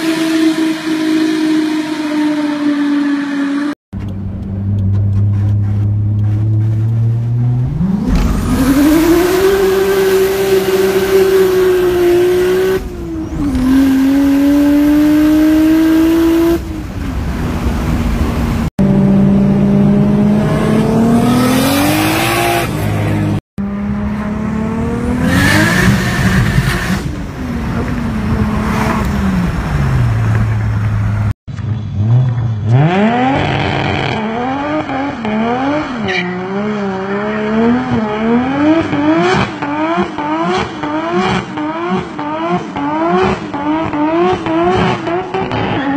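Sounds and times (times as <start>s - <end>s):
car engine pulling through gears: 3.0s - 45.9s
engine revving: 4.6s - 16.7s, 18.7s - 30.1s, 31.6s - 45.9s.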